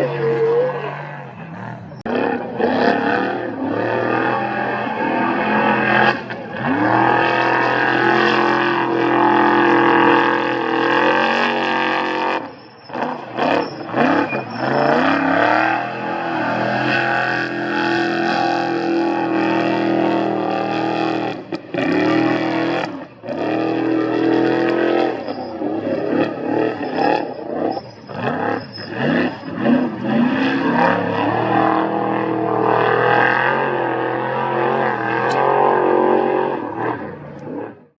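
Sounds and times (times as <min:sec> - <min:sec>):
race vehicle engine revving: 0:00.0 - 0:38.0.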